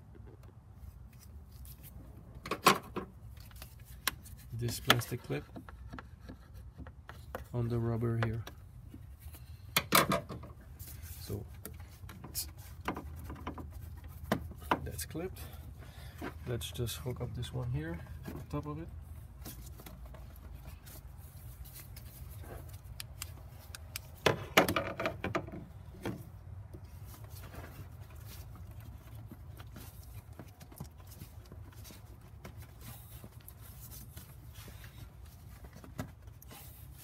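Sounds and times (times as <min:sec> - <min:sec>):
knocks and rustles: 0:00.0 - 0:15.2, 0:17.9 - 0:37.0
clicks and rubs of handling: 0:00.0 - 0:37.0.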